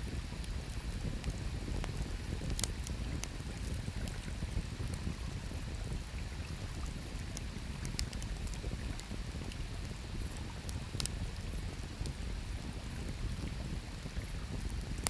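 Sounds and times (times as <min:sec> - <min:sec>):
campfire crackling and popping: 0:00.4 - 0:15.0.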